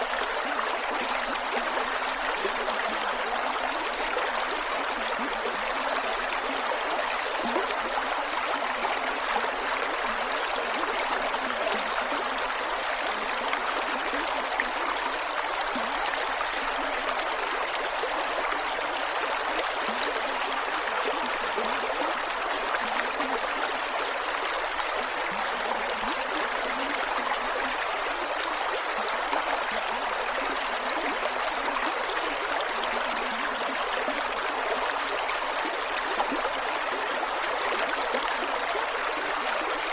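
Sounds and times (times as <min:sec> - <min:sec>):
creek flowing over rocks: 0:00.0 - 0:39.9
water gurgling and trickling: 0:00.0 - 0:39.9.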